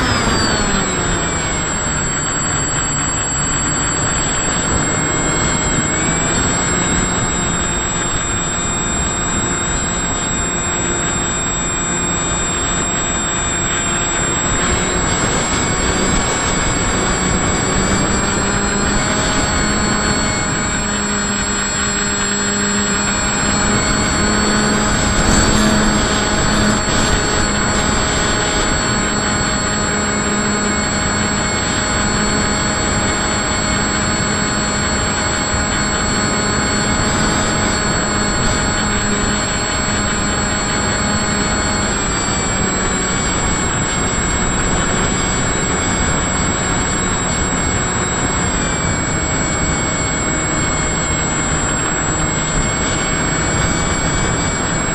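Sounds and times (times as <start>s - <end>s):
model aircraft motor whine: 0.0s - 54.9s
wind rushing over microphone: 0.0s - 54.9s.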